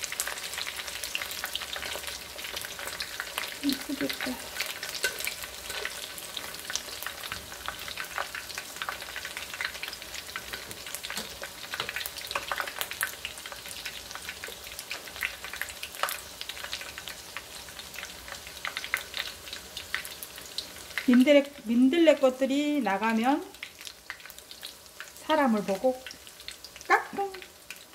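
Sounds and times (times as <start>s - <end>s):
food frying in hot oil: 0.0s - 27.9s.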